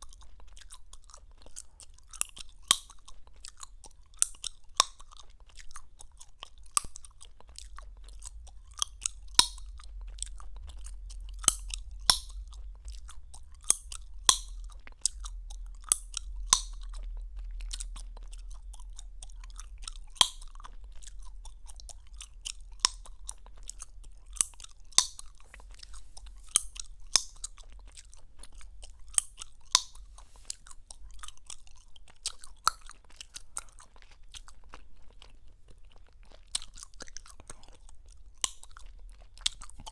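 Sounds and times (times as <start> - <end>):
gum chewing with smacking: 0.0 - 39.9.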